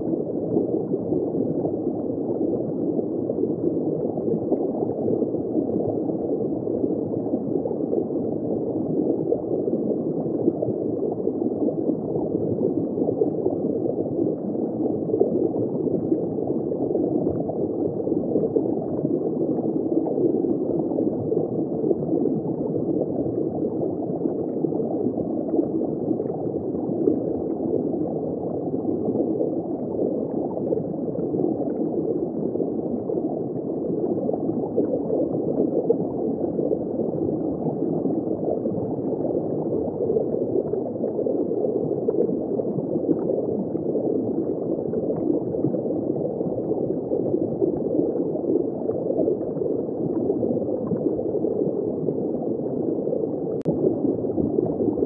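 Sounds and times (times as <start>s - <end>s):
underwater water rush and gurgle: 0.0s - 55.0s.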